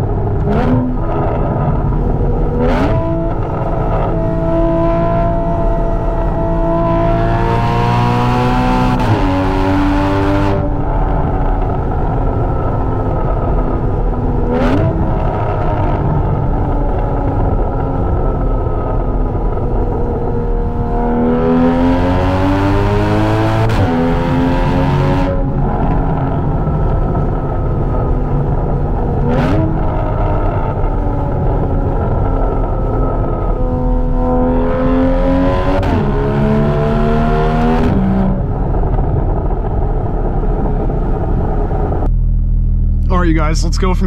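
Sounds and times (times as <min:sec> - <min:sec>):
car engine revving while driving: 0:00.0 - 0:42.1.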